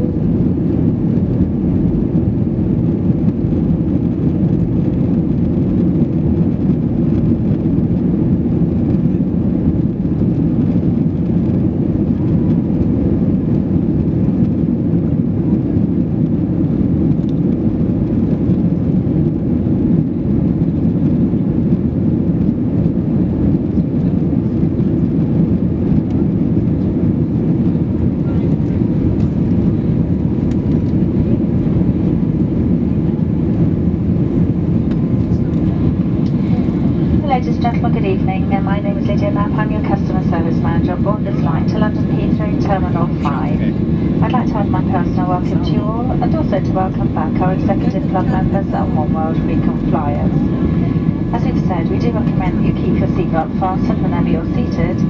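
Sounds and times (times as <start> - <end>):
jet engines rumbling: 0.0 - 55.0
rushing air in cabin: 0.0 - 55.0.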